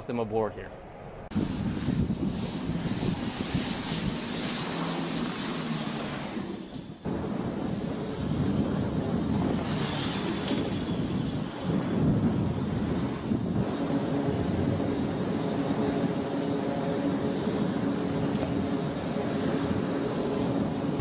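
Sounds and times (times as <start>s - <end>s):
propeller aircraft droning: 0.0s - 21.0s
rushing engines and wind: 0.9s - 21.0s.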